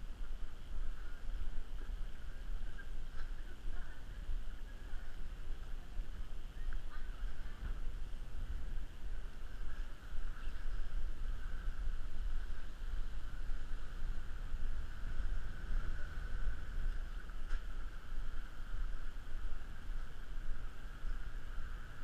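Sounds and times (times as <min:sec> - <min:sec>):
constant hiss: 0:00.0 - 0:22.0
low uneven rumble: 0:00.0 - 0:22.0.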